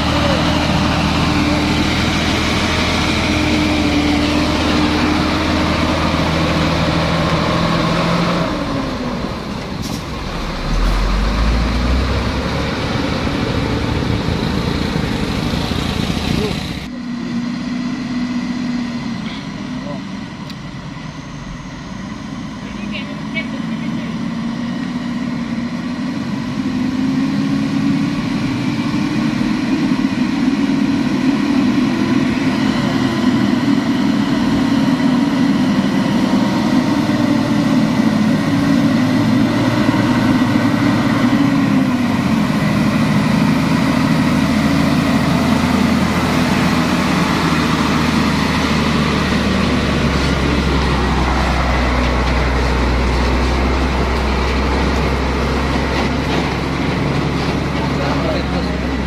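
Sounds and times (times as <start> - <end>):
truck diesel engine: 0.0 - 59.0.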